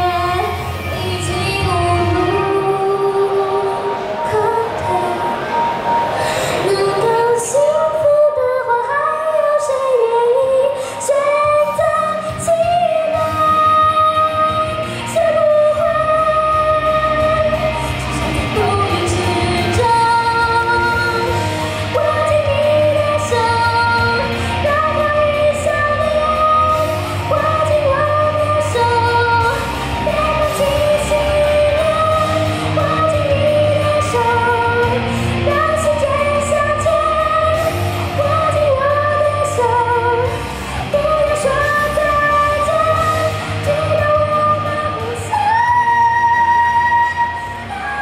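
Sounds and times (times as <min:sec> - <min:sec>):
women singing pop song: 0:00.0 - 0:48.0.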